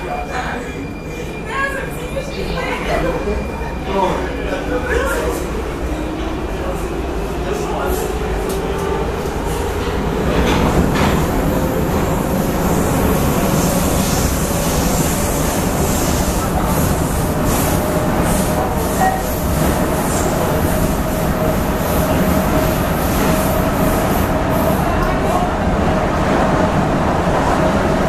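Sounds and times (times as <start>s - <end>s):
rumble of wheels on rail: 0.0s - 28.0s.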